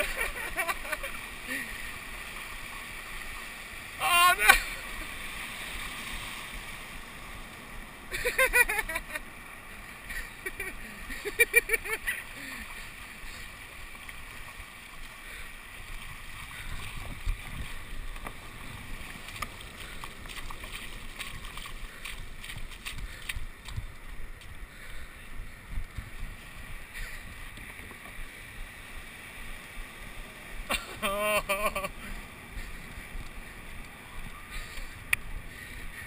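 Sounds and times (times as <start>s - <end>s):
surf: 0.0s - 36.0s
wind: 0.0s - 36.0s.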